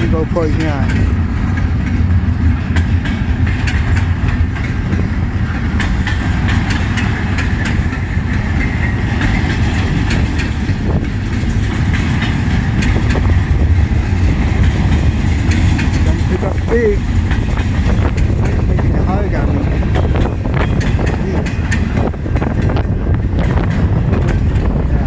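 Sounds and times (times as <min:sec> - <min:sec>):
freight train rumble: 0:00.0 - 0:25.0
wheels clicking over rail joints: 0:00.0 - 0:25.0.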